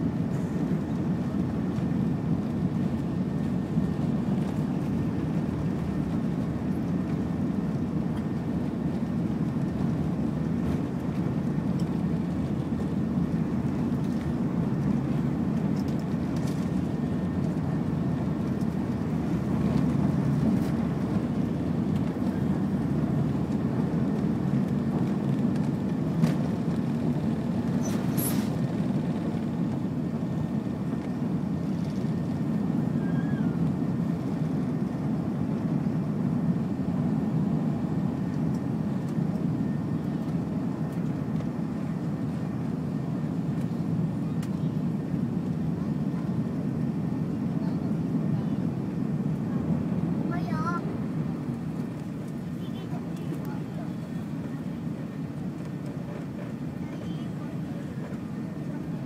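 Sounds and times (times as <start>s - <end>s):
jet engines low rumble in cabin: 0.0s - 59.0s.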